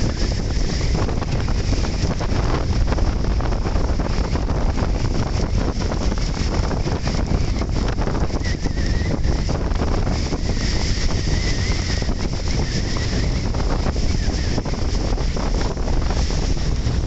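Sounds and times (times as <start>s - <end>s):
boat engine running: 0.0s - 17.0s
water noise: 0.0s - 17.0s
wind buffeting microphone: 0.0s - 17.0s.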